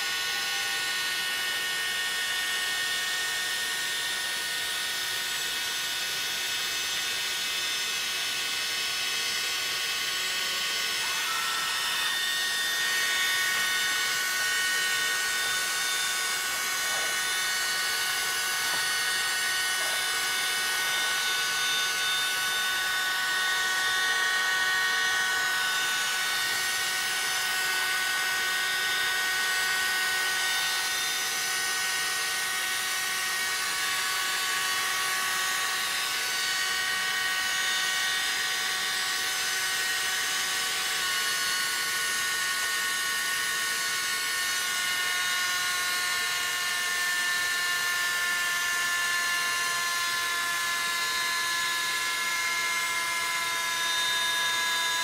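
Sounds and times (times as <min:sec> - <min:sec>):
gyro rotor whine: 0:00.0 - 0:55.0.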